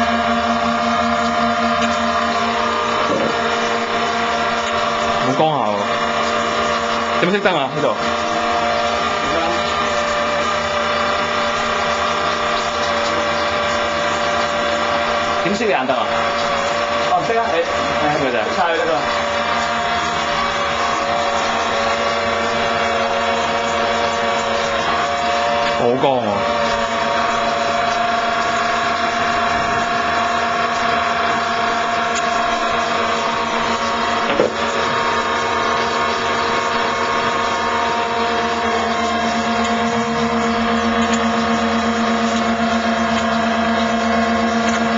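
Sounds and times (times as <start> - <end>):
electric motor whine: 0.0 - 44.9
steady water rush: 0.0 - 44.9.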